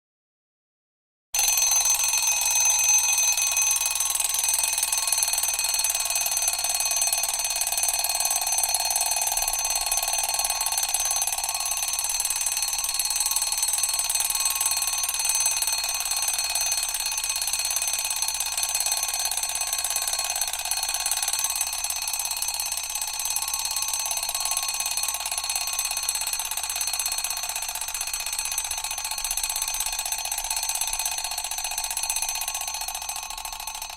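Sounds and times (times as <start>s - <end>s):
alarm clock bell ringing: 1.4s - 33.9s.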